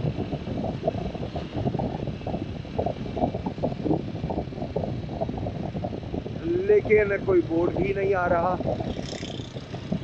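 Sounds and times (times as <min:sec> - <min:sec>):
motorcycle engine: 0:00.0 - 0:10.0
road noise: 0:00.0 - 0:10.0
wind buffeting microphone: 0:00.0 - 0:10.0.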